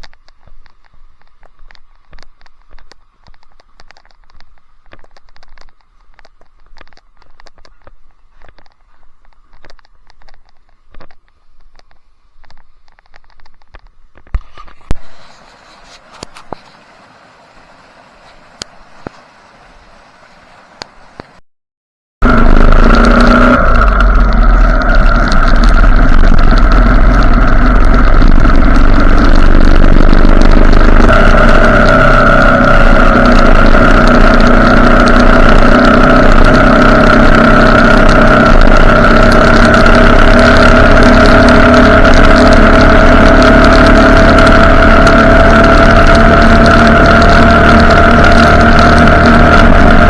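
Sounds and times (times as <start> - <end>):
motorcycle engine running: 0.0 - 16.7, 22.2 - 50.0.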